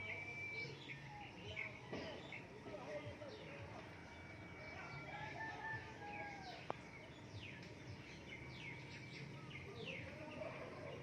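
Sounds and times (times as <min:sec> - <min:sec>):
birds chirping: 0:00.0 - 0:11.0
faint steady background noise: 0:00.0 - 0:11.0.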